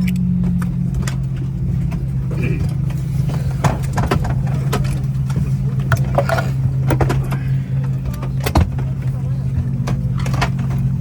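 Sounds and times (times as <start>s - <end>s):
clicks and knocks of passengers: 0.0s - 11.0s
steady low cabin hum: 0.0s - 11.0s.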